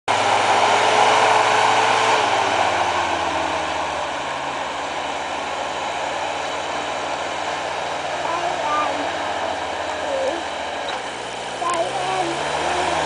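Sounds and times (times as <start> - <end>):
truck engine running under load: 0.1 - 13.0.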